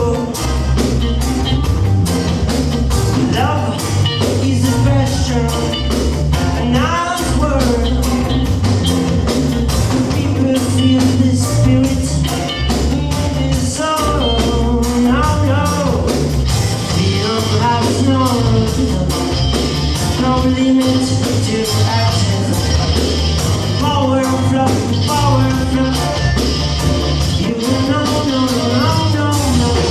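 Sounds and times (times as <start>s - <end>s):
band music with drums and bass: 0.0s - 29.9s.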